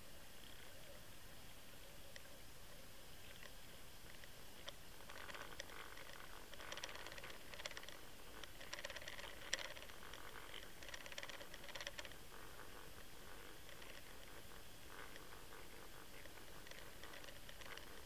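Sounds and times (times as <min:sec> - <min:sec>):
low hiss: 0:00.0 - 0:18.0
rapid underwater ticking and clicking: 0:03.2 - 0:18.0.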